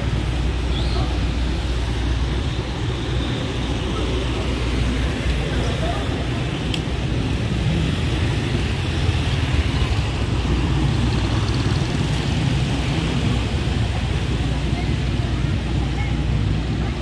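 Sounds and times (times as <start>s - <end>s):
motorcycles and cars passing: 0.0s - 17.0s.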